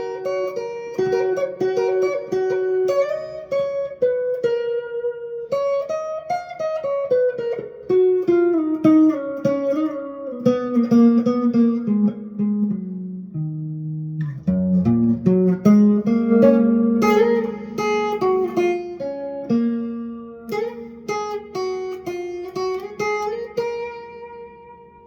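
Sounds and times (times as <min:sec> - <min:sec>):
guitar playing: 0:00.0 - 0:25.0.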